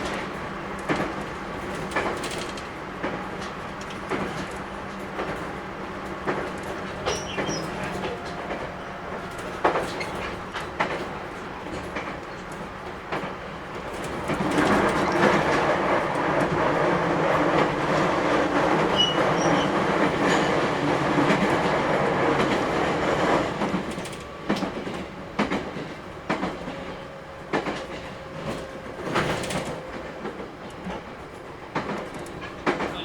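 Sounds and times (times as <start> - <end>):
train running noise: 0.0 - 33.0
wheels clicking on rail joints: 0.0 - 33.0.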